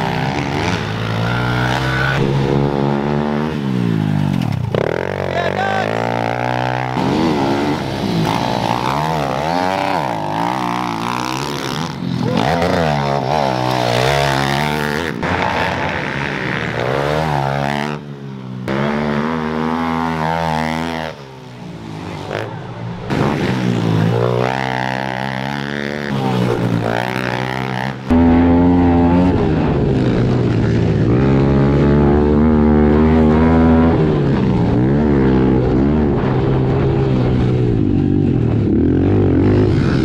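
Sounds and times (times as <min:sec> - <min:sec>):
motorbike engines revving: 0:00.0 - 0:40.0.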